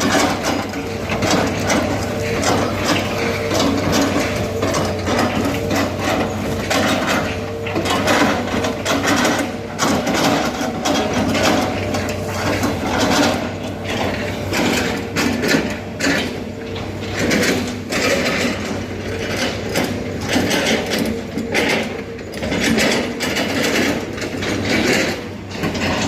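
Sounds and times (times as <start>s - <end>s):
excavator clanks and knocks: 0.0s - 26.0s
excavator diesel engine hum: 0.0s - 26.0s.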